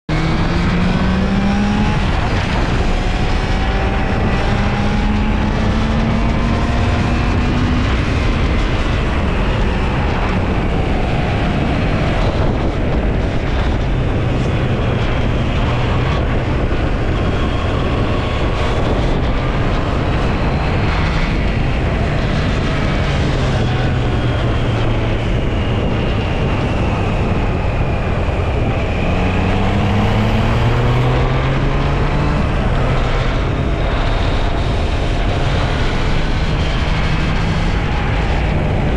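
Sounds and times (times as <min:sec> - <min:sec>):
steady rushing noise: 0:00.1 - 0:38.9.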